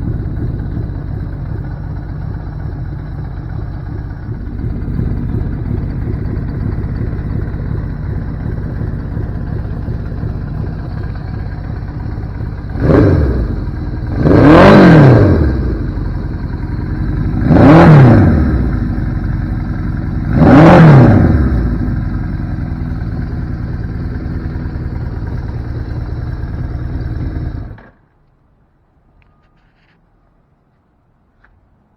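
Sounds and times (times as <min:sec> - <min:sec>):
motorcycle engine idling and revving: 0:00.0 - 0:28.2.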